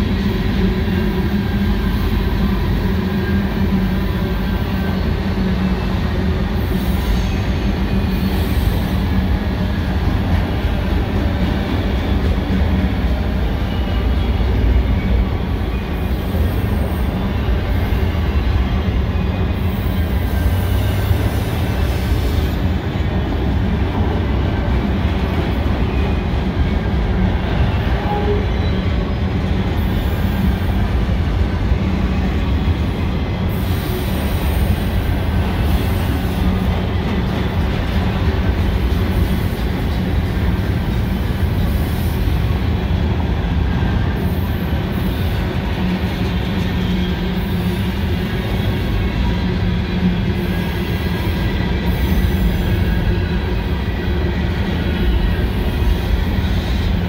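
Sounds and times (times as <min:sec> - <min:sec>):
freight train wheels rumbling on rail: 0:00.0 - 0:57.0
train wheel squeal: 0:00.0 - 0:57.0.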